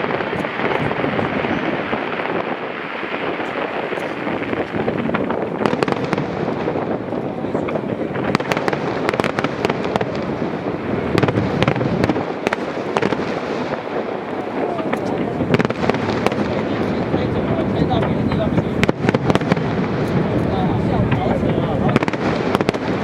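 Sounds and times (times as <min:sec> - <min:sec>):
fireworks bursts rumbling: 0:00.0 - 0:23.0
fireworks crackling: 0:00.0 - 0:23.0.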